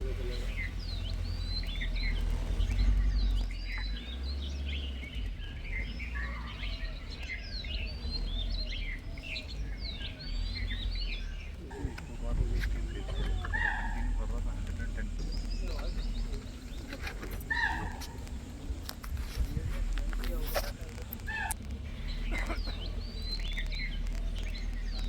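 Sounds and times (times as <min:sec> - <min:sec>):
small birds chirping: 0:00.0 - 0:25.0
steady low rumble: 0:00.0 - 0:25.0.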